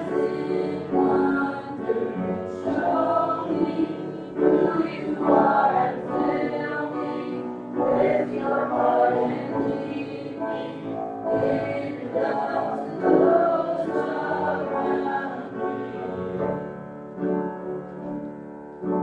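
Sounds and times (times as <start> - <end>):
group singing worship song: 0.0 - 16.7.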